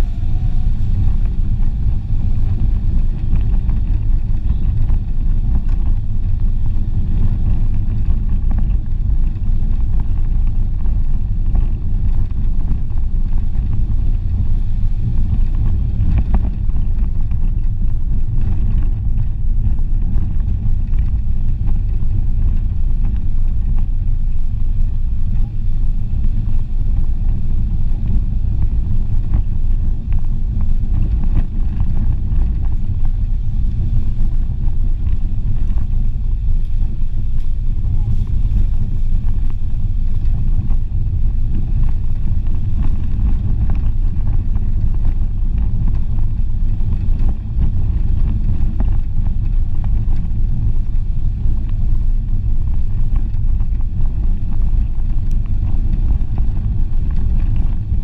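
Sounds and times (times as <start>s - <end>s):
car rumbling on gravel road: 0.0s - 58.0s.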